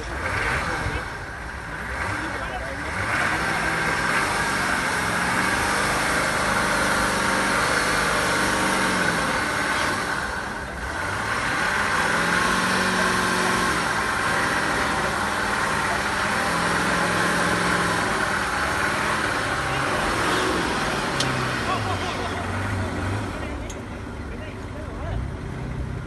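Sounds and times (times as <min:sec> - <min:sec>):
off-road vehicle engine under load: 0:00.0 - 0:26.0.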